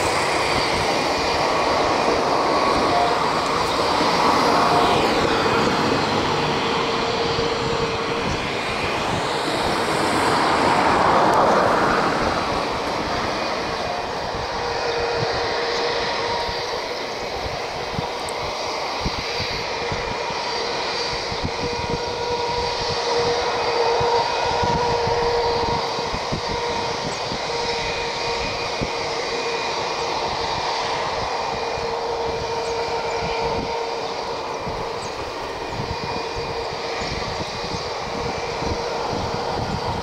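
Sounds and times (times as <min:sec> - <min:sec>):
jet engines whining: 0:00.0 - 0:40.0.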